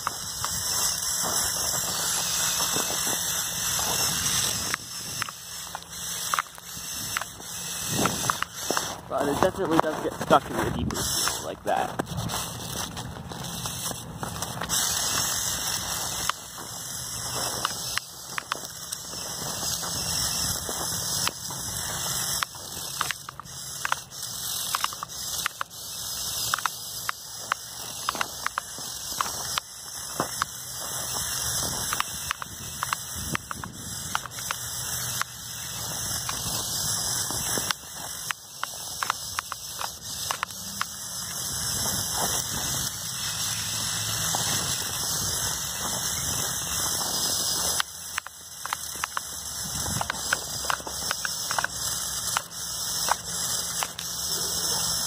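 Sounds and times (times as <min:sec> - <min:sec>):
sharp clicks: 0:00.0 - 0:55.0
toy motors whining: 0:00.0 - 0:55.0.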